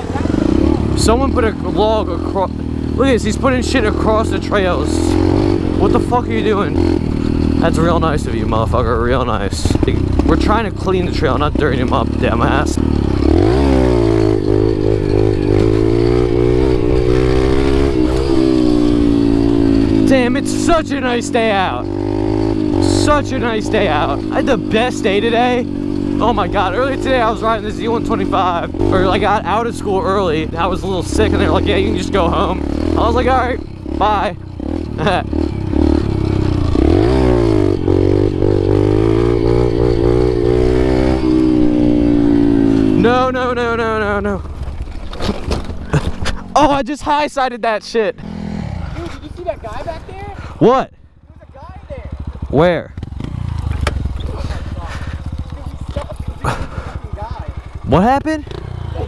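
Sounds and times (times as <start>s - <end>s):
dirt bike engine revving: 0.0s - 46.8s, 47.8s - 59.0s.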